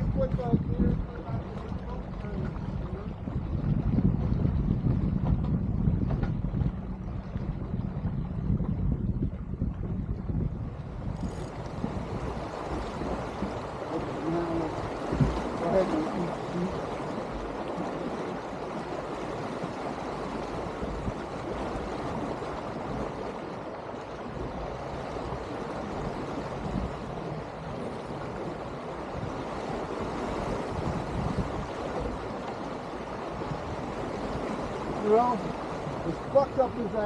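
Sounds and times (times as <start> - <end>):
water rushing along hull: 0.0 - 37.0
wind rumble on microphone: 0.0 - 37.0.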